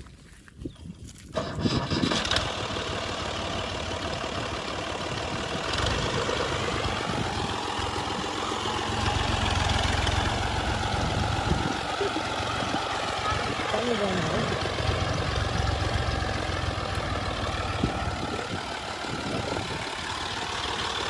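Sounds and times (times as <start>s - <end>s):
heavy diesel engine running: 1.4s - 21.0s.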